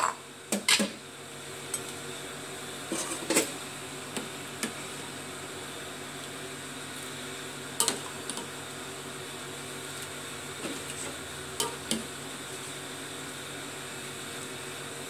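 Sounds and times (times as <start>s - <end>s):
kitchen appliance hum: 0.0s - 15.0s.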